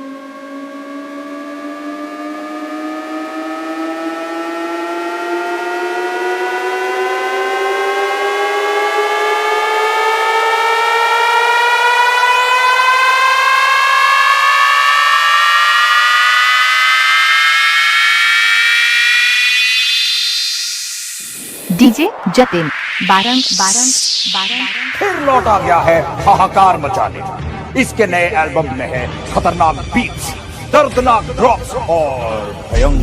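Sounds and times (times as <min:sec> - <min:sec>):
synthesizer riser rising in pitch: 0:00.0 - 0:29.2.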